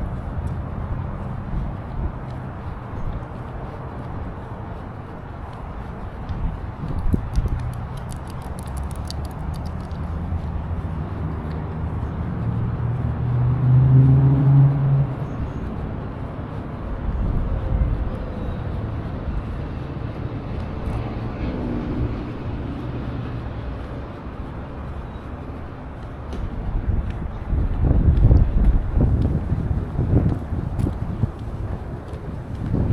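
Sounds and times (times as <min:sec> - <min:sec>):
road traffic passing: 0:00.0 - 0:32.9.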